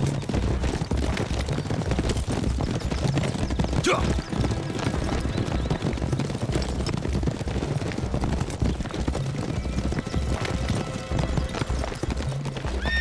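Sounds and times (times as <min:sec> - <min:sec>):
horses galloping: 0:00.0 - 0:13.0.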